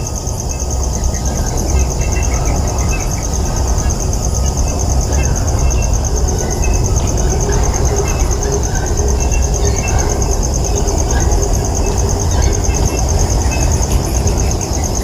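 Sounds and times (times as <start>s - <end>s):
insect pulsing trill: 0.0s - 15.0s.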